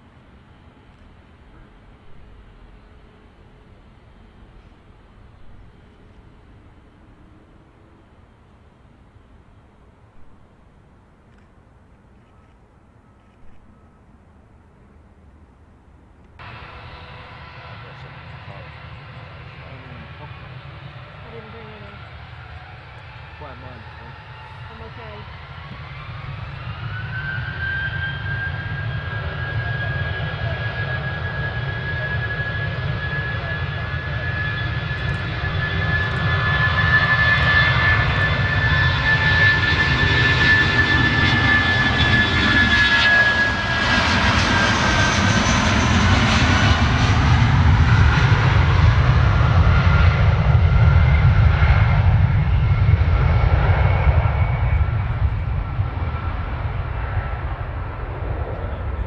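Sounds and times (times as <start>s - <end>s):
jet engines passing by: 0.0s - 14.2s, 14.9s - 59.0s.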